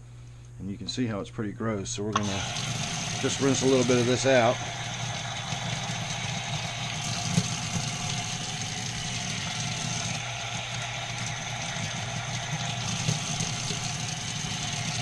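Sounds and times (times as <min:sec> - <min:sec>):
tap water running and splashing: 0:02.2 - 0:15.0.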